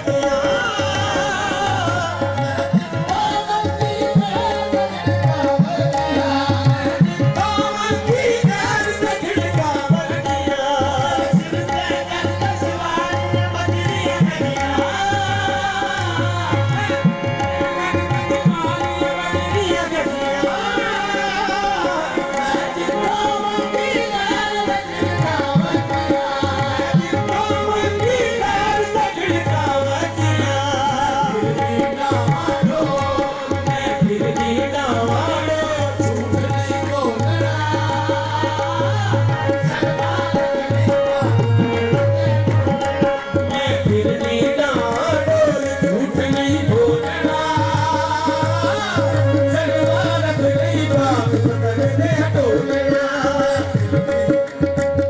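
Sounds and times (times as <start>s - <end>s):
harmonium tones: 0.0s - 55.0s
person singing with melismatic runs: 0.0s - 55.0s
tabla drumming: 0.0s - 55.0s.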